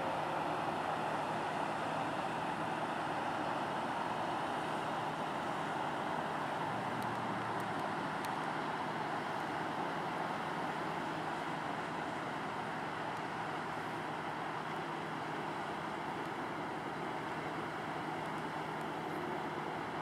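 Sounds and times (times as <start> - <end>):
low engine hum: 0.0 - 20.0
water rushing along hull: 0.0 - 20.0.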